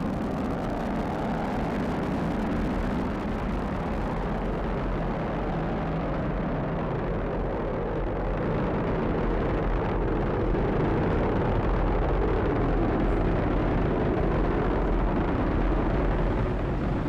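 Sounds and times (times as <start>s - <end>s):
rocket engines deep rumble: 0.0s - 17.0s.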